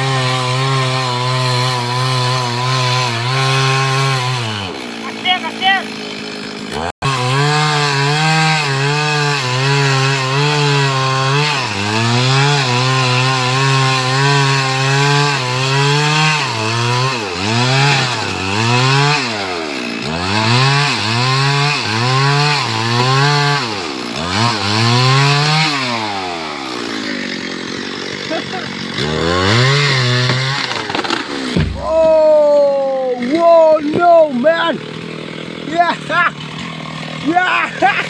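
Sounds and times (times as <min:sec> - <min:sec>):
chainsaw cutting wood: 0:00.0 - 0:38.0.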